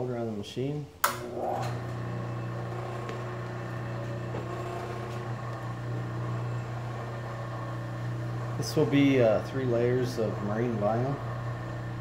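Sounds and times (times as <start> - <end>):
electric motor humming: 1.2 - 12.0.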